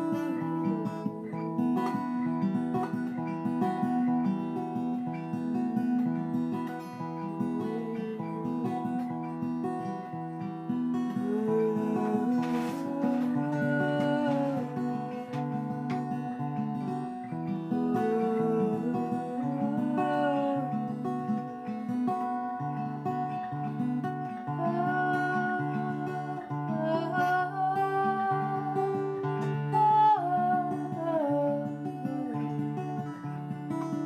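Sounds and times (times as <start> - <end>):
acoustic guitar strummed and plucked: 0.0 - 34.0.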